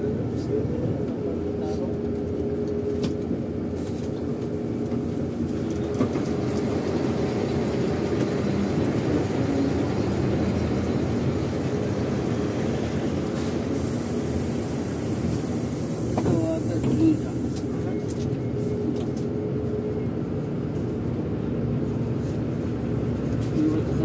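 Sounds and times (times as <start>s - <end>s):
bus engine and road drone: 0.0s - 24.0s.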